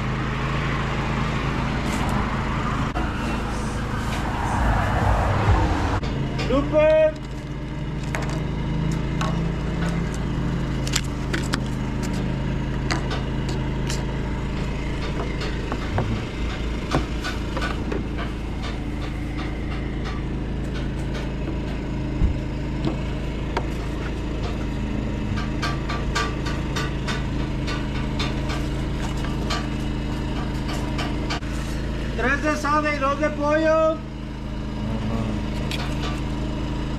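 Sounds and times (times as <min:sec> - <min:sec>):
engine idling: 0:00.0 - 0:36.9.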